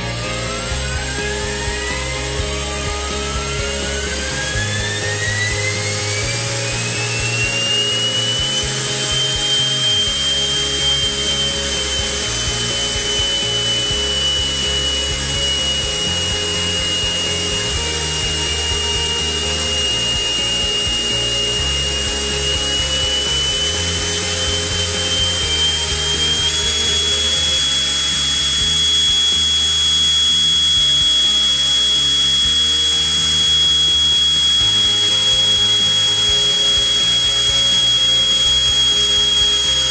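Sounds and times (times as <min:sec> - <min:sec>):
background music: 0:00.0 - 0:39.9
turbine engine whine: 0:00.0 - 0:39.9.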